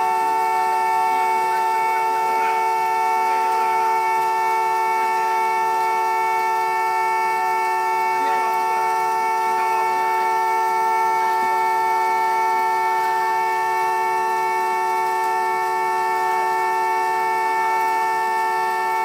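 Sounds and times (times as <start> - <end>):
alarm horn blare: 0.0 - 19.0.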